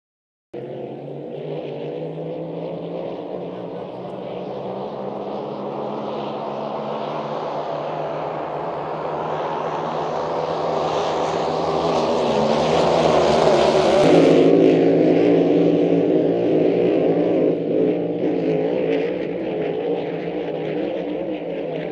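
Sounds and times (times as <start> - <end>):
boat sweeping past: 0.6 - 21.8
racing boat engines droning: 0.6 - 21.9.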